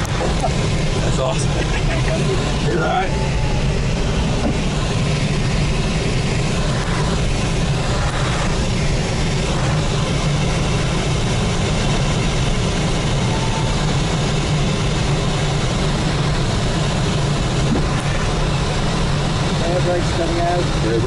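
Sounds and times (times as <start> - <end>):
rushing wind noise in cockpit: 0.0 - 21.0.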